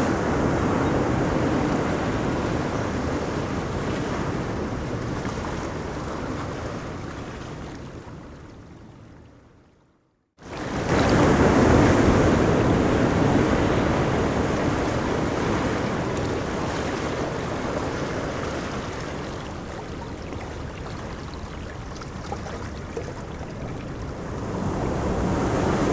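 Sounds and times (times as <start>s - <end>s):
ocean waves breaking on beach: 0.0s - 8.8s, 10.4s - 25.9s.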